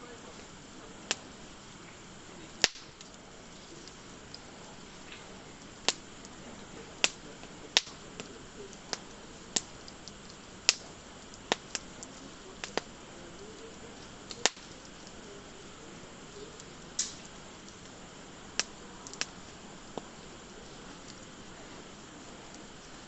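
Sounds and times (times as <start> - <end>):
campfire crackling and popping: 0.0 - 23.0
faint hiss of burning: 0.0 - 23.0.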